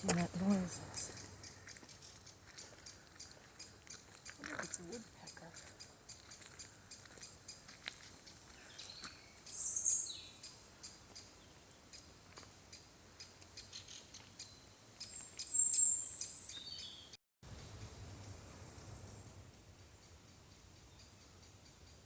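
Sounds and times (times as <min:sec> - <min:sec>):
faint bird chirps and ticks: 0:00.1 - 0:22.0.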